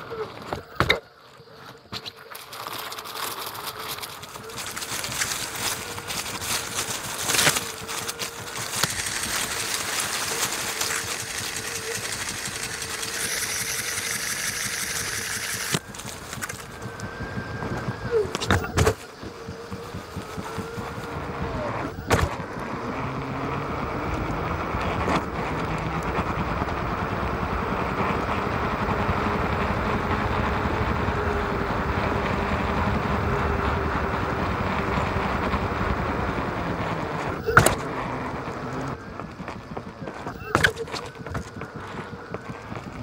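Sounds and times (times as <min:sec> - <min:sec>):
tyre rolling over ground: 0:00.0 - 0:14.2, 0:15.5 - 0:43.0
faint motor whine: 0:00.0 - 0:43.0.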